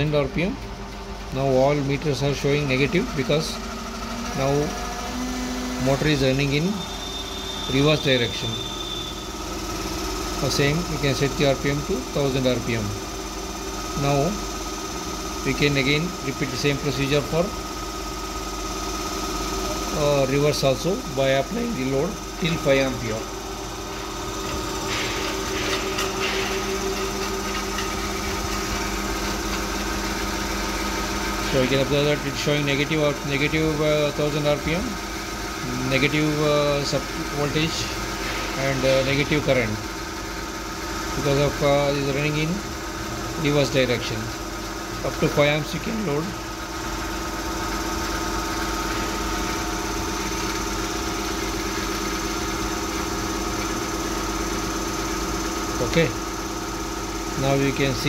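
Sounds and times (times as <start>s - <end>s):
electric motor hum and whine: 0.0s - 58.0s.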